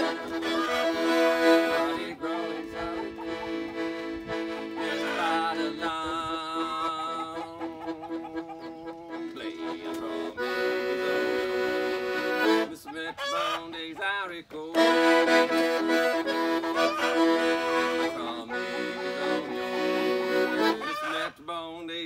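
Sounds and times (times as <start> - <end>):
accordion playing: 0.0 - 21.3.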